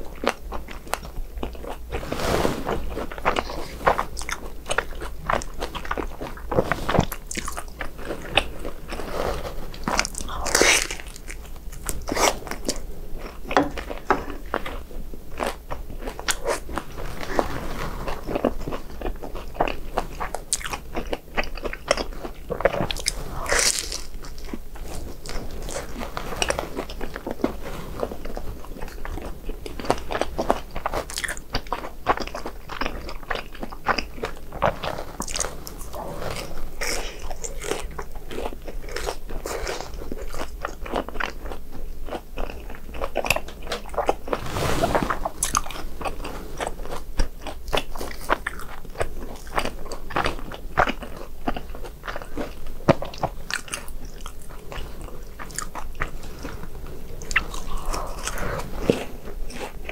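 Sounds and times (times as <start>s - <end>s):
crunchy bites and chewing: 0.1s - 59.9s.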